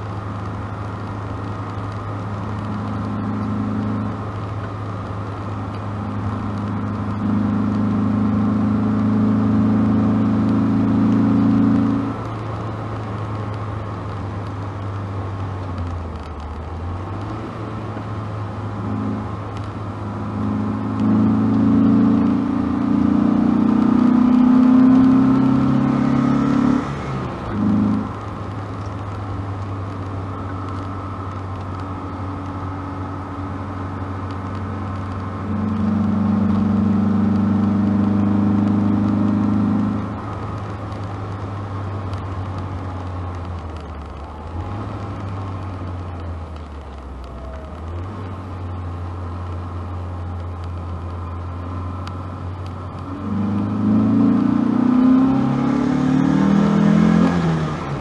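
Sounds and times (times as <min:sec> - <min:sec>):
car engine and exhaust: 0:00.0 - 0:58.0.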